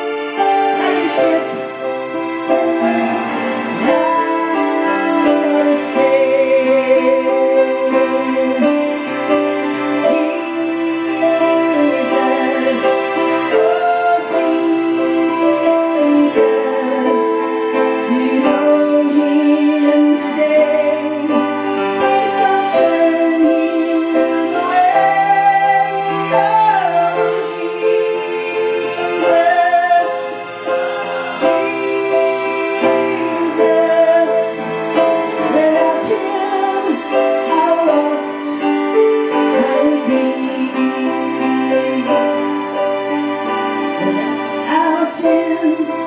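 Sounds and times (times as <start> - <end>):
woman singing: 0.0 - 42.8, 44.0 - 46.0
keyboard chords: 0.0 - 46.0.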